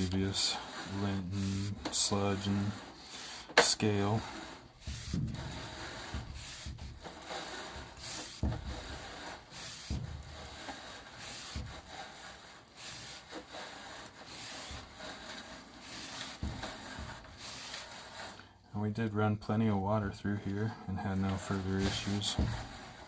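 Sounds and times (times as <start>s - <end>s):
cable scraping through metal pipe: 0.0s - 18.6s, 19.6s - 23.0s.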